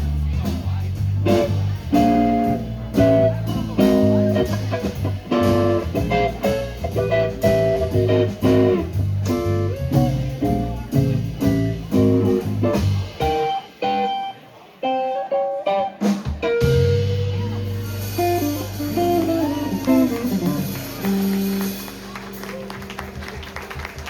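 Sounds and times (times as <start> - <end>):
blues band playing: 0.0 - 24.0
electric guitar playing alone: 1.2 - 23.2.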